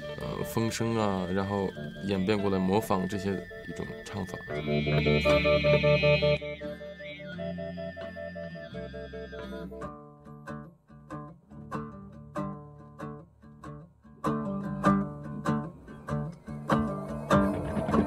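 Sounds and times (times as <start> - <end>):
plucked string instrument strumming: 0.0 - 18.0.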